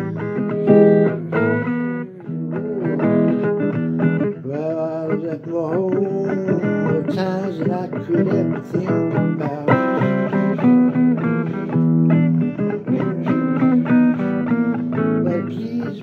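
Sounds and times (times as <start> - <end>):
blues guitar playing: 0.0 - 16.0
person singing blues: 0.0 - 16.0.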